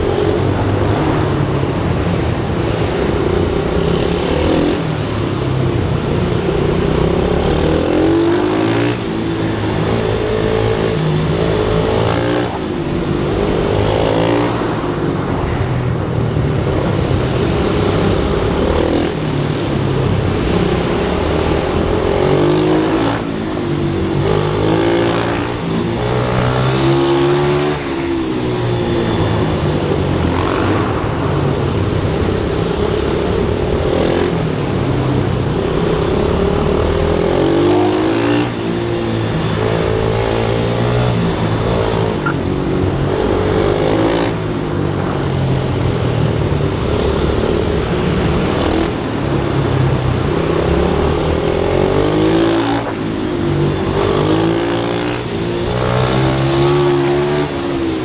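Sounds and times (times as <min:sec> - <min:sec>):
pit bike engine accelerating: 0:00.0 - 0:58.0.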